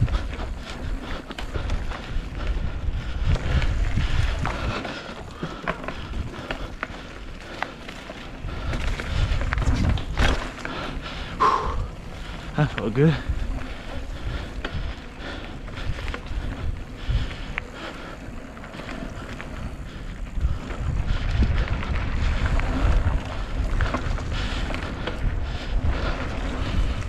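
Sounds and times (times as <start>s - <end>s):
bike clicks and rattles: 0.0s - 27.0s
tyre noise on dirt: 0.0s - 27.0s
wind buffeting microphone: 0.0s - 27.0s.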